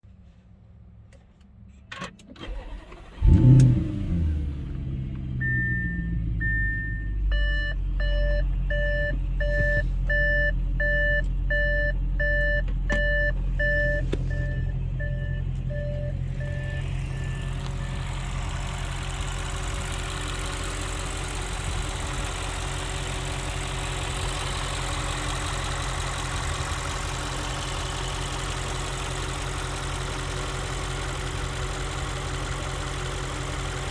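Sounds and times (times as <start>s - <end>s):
car engine starting and idling: 0.1s - 33.9s.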